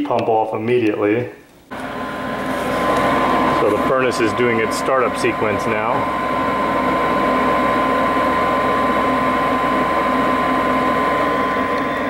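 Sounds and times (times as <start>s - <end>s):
furnace inducer motor hum: 1.7s - 12.0s
high whine: 1.7s - 12.0s.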